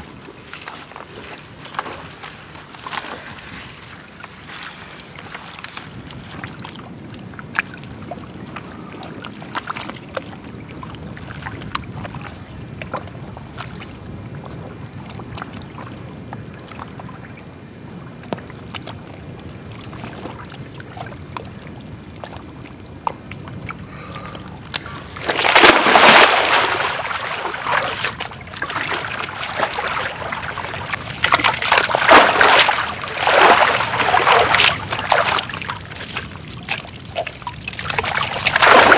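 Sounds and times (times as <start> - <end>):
wet mud squelching and sloshing: 0.0 - 15.9, 18.7 - 38.9.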